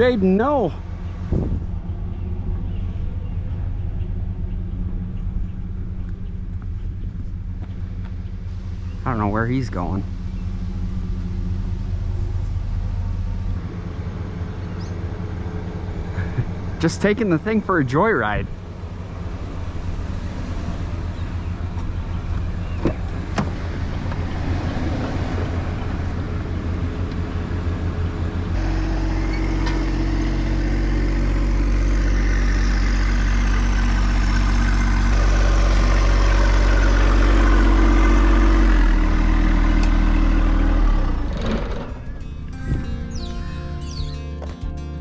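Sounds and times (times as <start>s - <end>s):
vehicle engine running: 0.0s - 45.0s.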